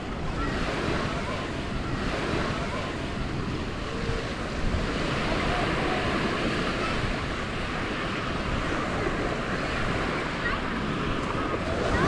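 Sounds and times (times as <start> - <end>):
small waves washing on beach: 0.0 - 12.0
wind rumbling on microphone: 0.0 - 12.0.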